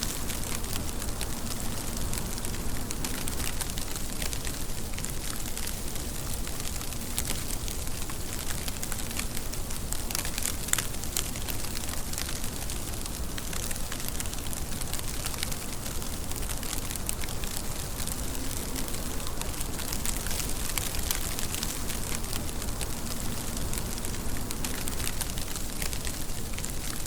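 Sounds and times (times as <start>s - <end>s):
raindrops ticking sharply: 0.0s - 27.0s
steady rain: 0.0s - 27.0s.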